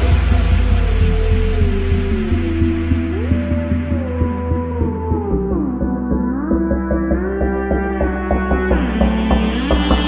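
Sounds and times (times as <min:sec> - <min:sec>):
bass line: 0:00.0 - 0:10.0
electronic music with steady beat: 0:00.0 - 0:10.0.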